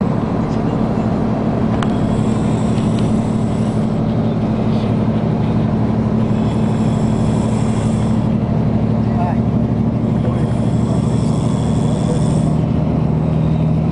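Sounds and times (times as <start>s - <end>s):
vehicle engine and road noise: 0.0s - 13.9s.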